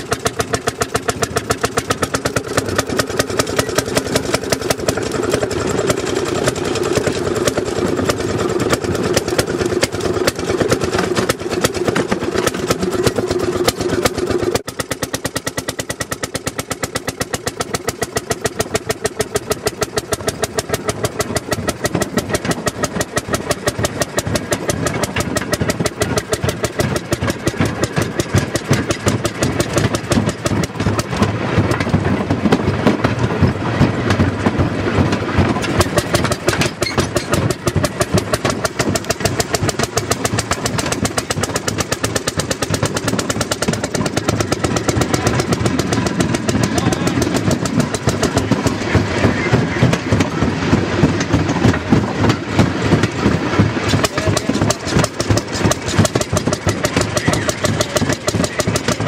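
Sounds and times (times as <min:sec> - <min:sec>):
small engine exhaust pulses: 0:00.0 - 0:59.0.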